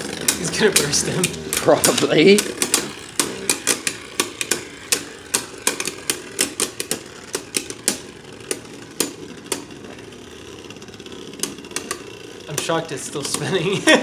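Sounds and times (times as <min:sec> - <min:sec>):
spinning tops clashing: 0:00.0 - 0:14.0.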